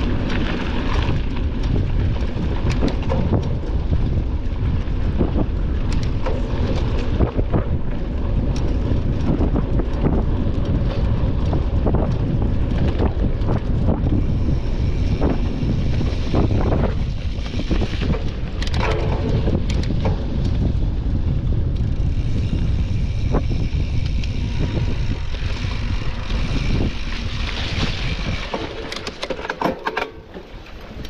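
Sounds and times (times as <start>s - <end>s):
wind buffeting microphone: 0.0s - 29.2s
bike knocks and rattles: 0.0s - 31.0s.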